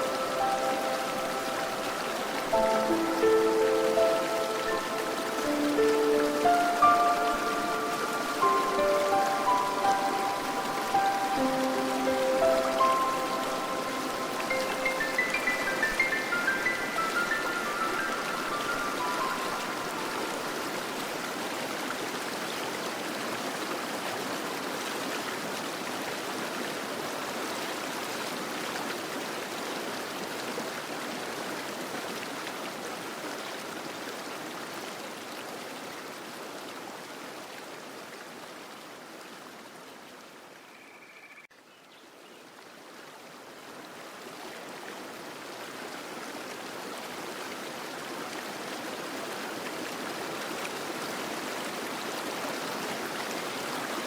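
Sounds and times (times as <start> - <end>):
fountain water splashing: 0.0 - 38.9, 43.4 - 54.0.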